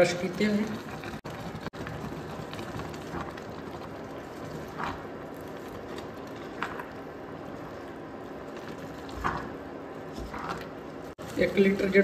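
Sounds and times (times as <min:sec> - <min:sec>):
pot boiling with bubbling hiss: 0:00.0 - 0:12.0.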